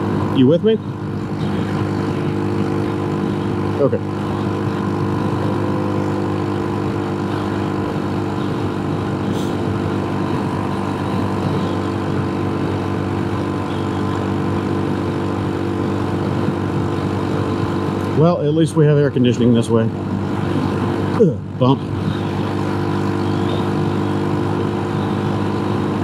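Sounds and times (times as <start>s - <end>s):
motorcycle engine cruising: 0.0s - 26.0s
riding wind rush: 0.0s - 26.0s.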